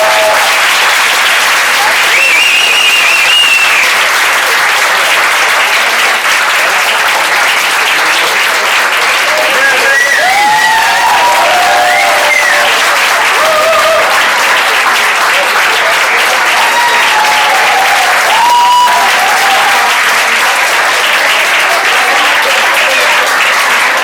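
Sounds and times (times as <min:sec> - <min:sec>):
cheering calls: 0:00.0 - 0:04.6, 0:08.1 - 0:24.0
audience applauding: 0:00.0 - 0:24.0.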